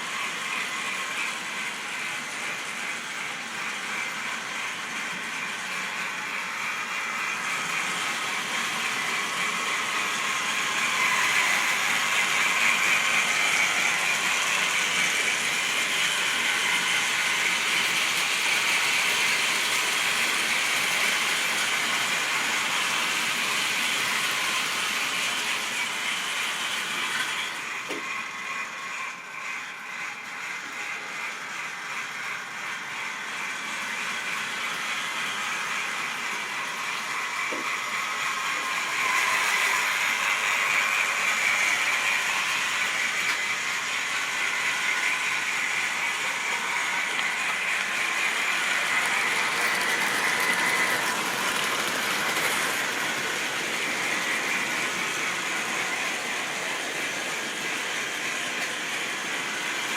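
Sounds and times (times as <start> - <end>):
model train whirring and rattling: 0.0 - 59.9.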